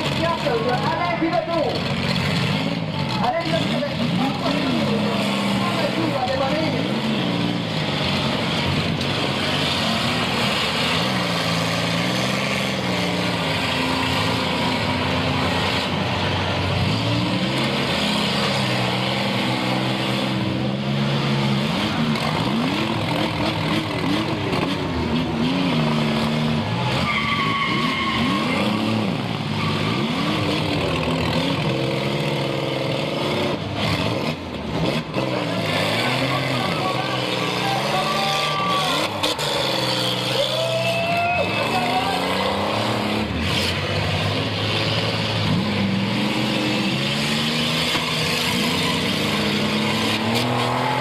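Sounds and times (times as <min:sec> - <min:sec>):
car engines revving: 0:00.0 - 0:51.0
cars ramming each other: 0:00.0 - 0:51.0.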